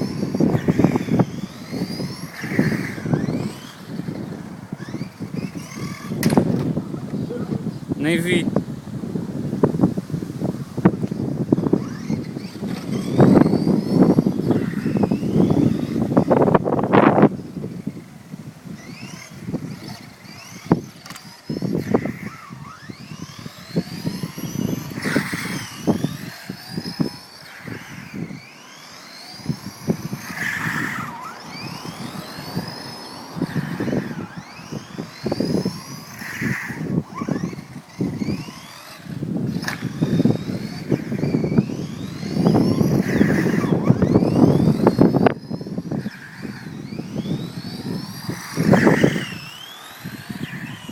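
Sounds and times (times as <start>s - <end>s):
electric motor whining: 0.0s - 50.9s.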